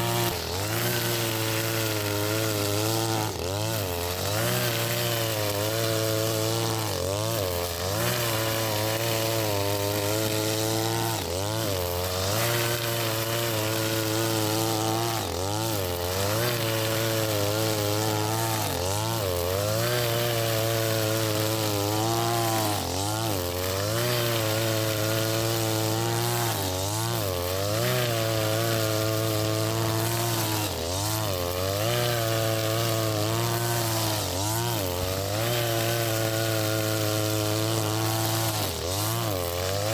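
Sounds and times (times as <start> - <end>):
brushcutter cutting grass: 0.0 - 39.9.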